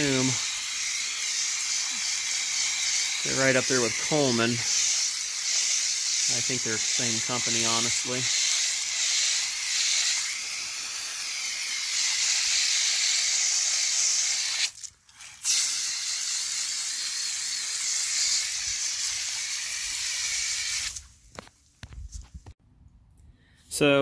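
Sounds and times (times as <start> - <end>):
hose water spray hissing: 0.0 - 21.2.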